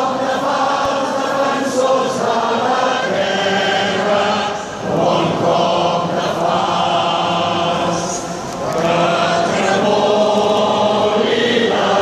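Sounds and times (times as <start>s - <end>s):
crowd singing in unison: 0.0s - 12.0s.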